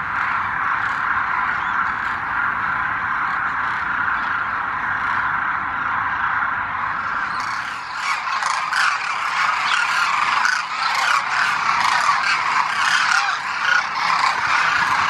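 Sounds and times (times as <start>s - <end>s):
flock of cranes calling: 0.0s - 15.0s.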